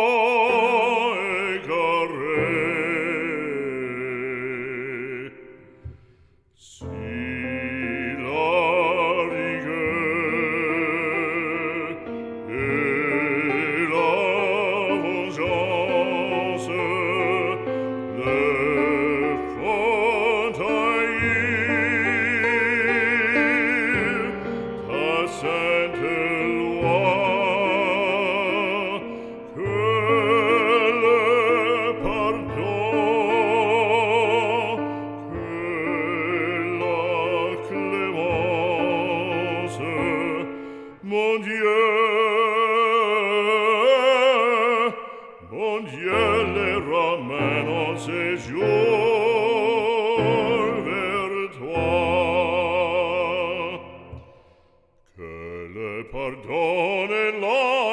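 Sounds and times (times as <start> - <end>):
operatic singing with vibrato: 0.0 - 57.9.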